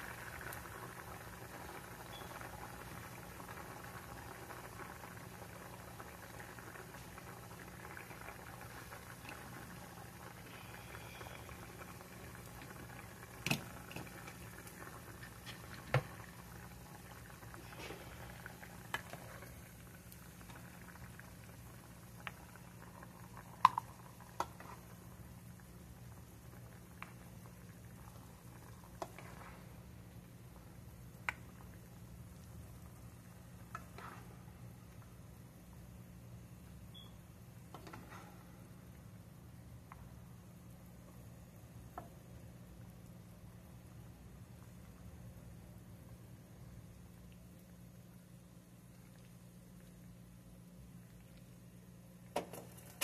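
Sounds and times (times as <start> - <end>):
saucepan bubbling: 0.0 - 53.0.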